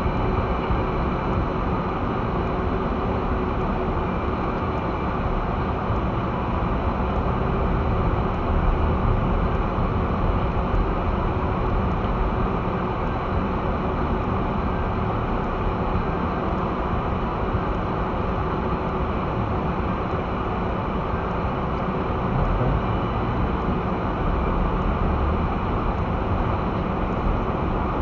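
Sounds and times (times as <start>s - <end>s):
vehicle engine and tyre drone: 0.0s - 28.0s.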